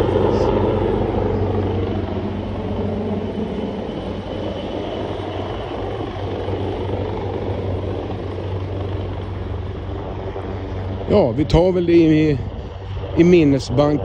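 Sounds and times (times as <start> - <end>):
helicopter hovering: 0.0 - 14.0.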